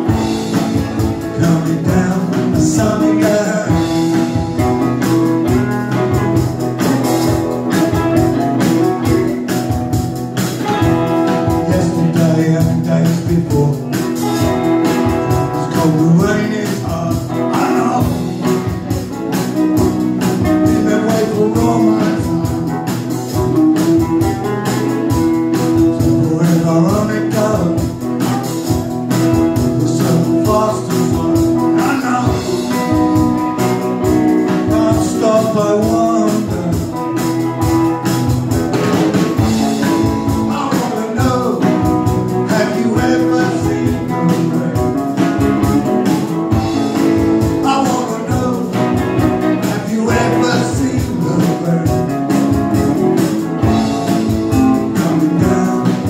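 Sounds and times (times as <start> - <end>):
cigar box guitar: 0.0 - 56.0
drum kit steady beat: 0.0 - 56.0
strummed acoustic guitar: 0.0 - 56.0.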